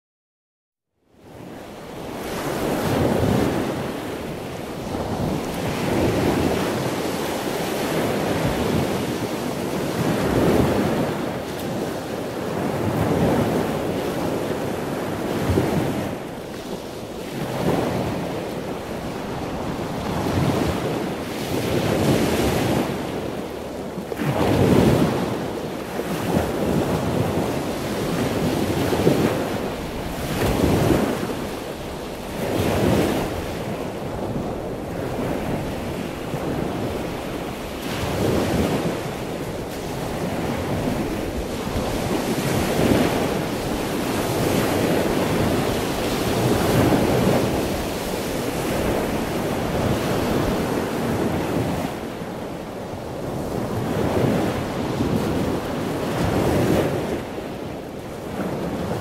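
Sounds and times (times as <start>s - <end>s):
ocean waves breaking: 1.2s - 59.0s.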